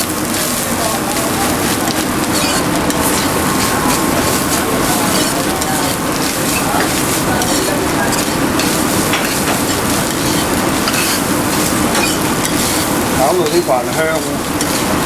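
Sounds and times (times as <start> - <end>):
rice sizzling in a wok: 0.0 - 15.0
metal spatula scraping a pan: 1.6 - 15.0.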